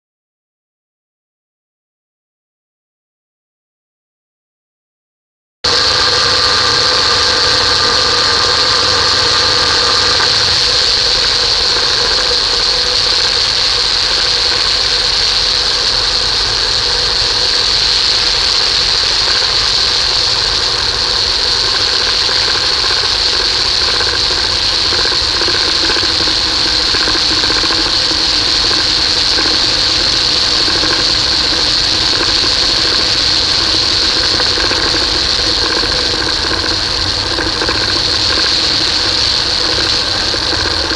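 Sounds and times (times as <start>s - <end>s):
aircraft engine noise: 5.6s - 40.9s
faint hum: 5.7s - 40.9s
low hum: 5.7s - 40.9s.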